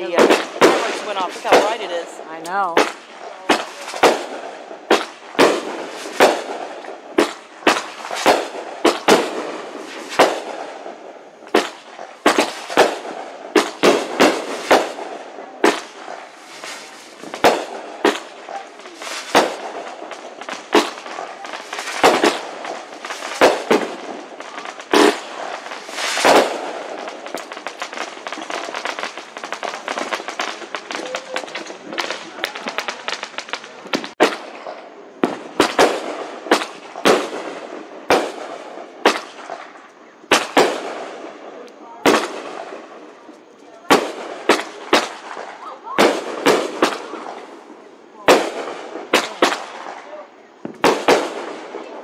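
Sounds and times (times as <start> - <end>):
fireworks bangs: 0.0 - 52.0
fireworks crackle: 0.0 - 52.0.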